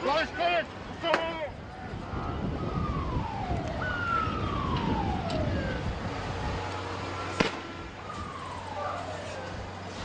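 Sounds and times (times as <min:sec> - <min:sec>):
low rumble of street noise: 0:00.0 - 0:10.0
siren wailing: 0:01.6 - 0:10.0.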